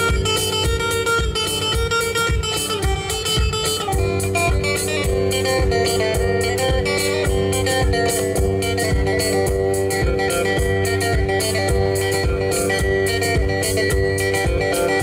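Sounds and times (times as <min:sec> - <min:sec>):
drum kit beat: 0:00.0 - 0:15.0
electric guitars: 0:00.0 - 0:15.0.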